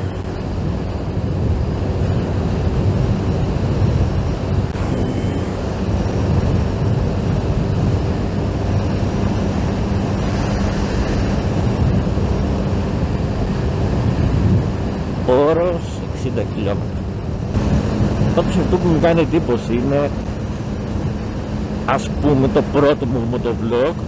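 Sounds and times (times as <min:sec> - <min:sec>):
motorcycle engine humming: 0:00.0 - 0:24.0
wind buffeting microphone: 0:00.0 - 0:24.0.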